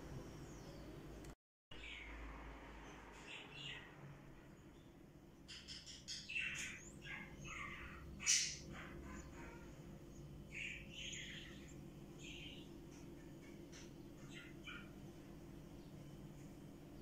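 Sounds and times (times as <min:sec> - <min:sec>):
small birds chirping: 0:00.0 - 0:02.2, 0:02.8 - 0:17.0.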